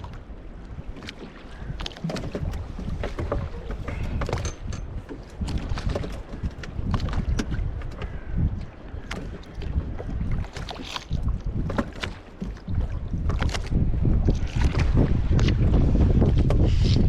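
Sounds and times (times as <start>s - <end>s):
water splashing against hull: 0.0s - 17.0s
wind buffeting microphone: 0.0s - 17.0s.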